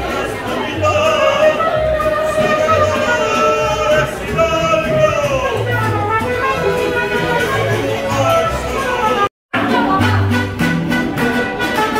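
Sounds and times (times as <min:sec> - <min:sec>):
plucked bass pulsing: 0:00.0 - 0:11.6
mariachi band playing: 0:00.0 - 0:11.9.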